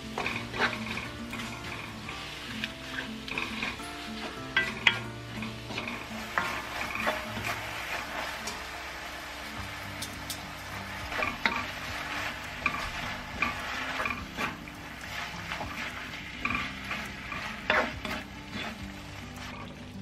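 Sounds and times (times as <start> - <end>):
spatula knocking and scraping pan: 0.0 - 8.7, 9.9 - 19.7
food sizzling in a frying pan: 0.0 - 20.0.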